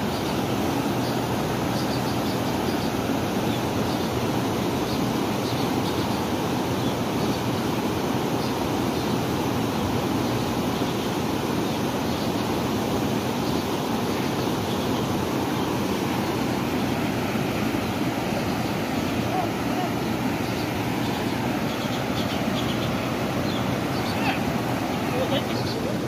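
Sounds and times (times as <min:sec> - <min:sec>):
fast river water rushing: 0:00.0 - 0:26.0.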